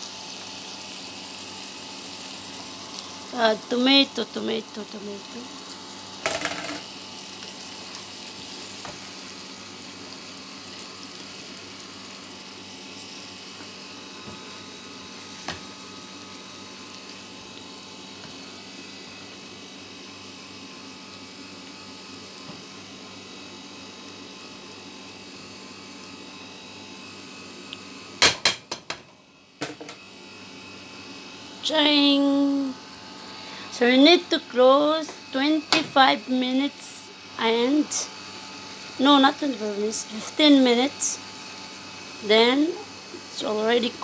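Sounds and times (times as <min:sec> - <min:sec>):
food sizzling in a pan: 0:00.0 - 0:44.0.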